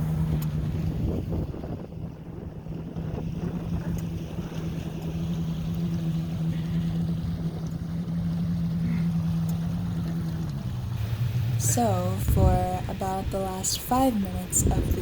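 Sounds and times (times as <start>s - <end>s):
boat engine running: 0.0s - 15.0s
rush of wind and water: 0.0s - 15.0s.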